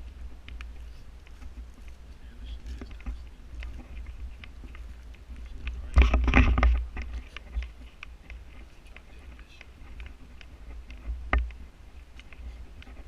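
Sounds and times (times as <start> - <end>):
footsteps on forest trail: 0.0 - 13.0
wind rumble on microphone: 0.0 - 13.0.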